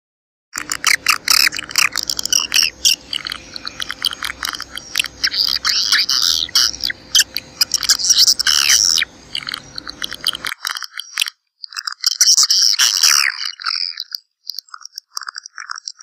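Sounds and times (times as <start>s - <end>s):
swiftlets chirping and trilling: 0.6s - 16.0s.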